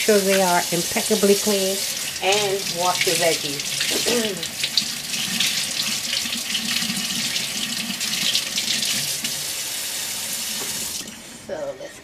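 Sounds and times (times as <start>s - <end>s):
faucet running into a steel sink: 0.0s - 11.2s.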